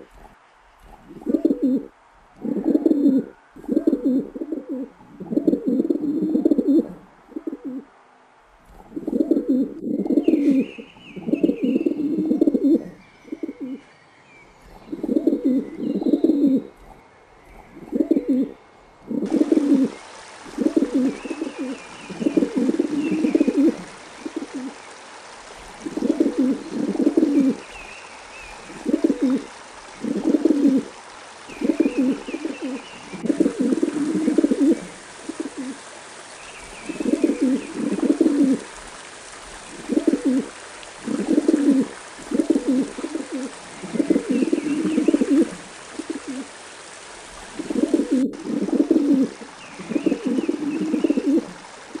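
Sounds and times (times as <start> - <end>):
steady hiss: 0.0 - 52.0
pigeons cooing: 0.9 - 7.9, 8.8 - 13.8, 14.8 - 17.0, 17.6 - 46.6, 47.3 - 52.0.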